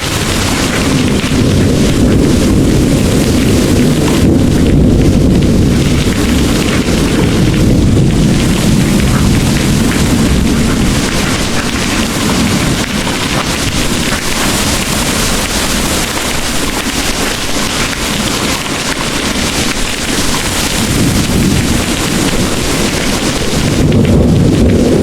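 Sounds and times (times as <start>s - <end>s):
distant thunder rumbling: 0.0s - 25.0s
heavy rain pouring: 0.0s - 25.0s.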